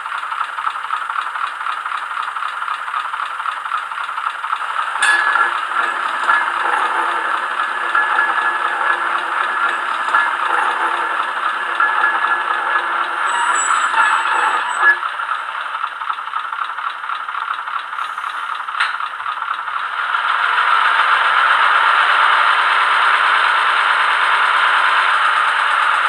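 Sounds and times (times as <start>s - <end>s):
model locomotive diesel engine sound: 0.0s - 26.0s.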